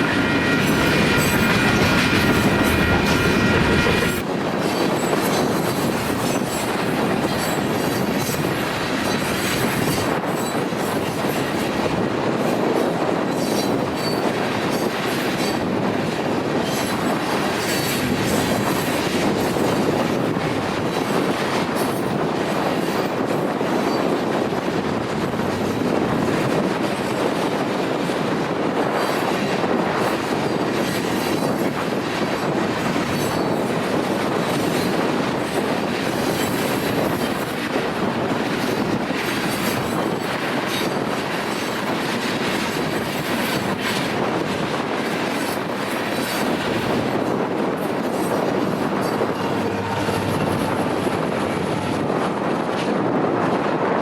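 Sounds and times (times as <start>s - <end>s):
train wheels rolling on track: 0.0s - 54.0s.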